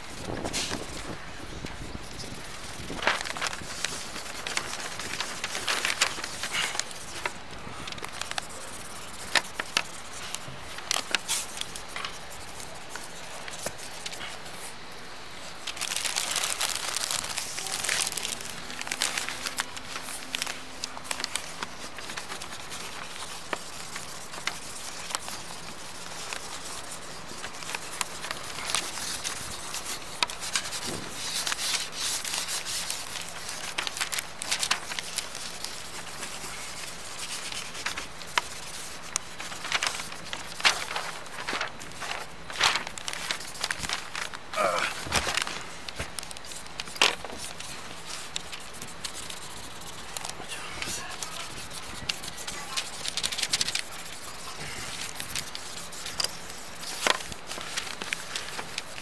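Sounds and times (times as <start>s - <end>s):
scratching on paper: 0.0s - 59.0s
small clicks and crackles: 0.2s - 14.6s, 15.6s - 59.0s.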